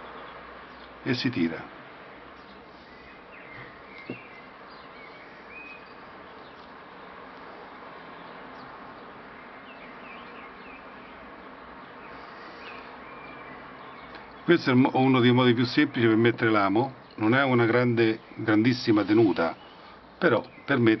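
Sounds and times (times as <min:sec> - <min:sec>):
faint steady background noise: 0:00.0 - 0:21.0.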